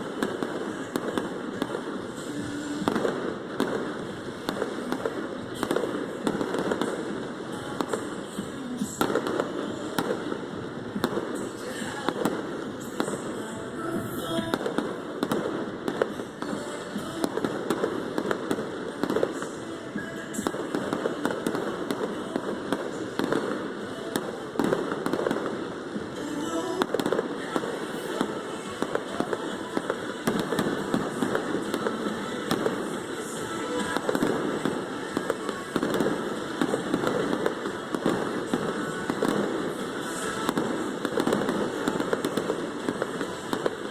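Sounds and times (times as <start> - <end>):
fireworks bursting and crackling: 0.0 - 43.9
pop music over loudspeakers: 0.0 - 43.9.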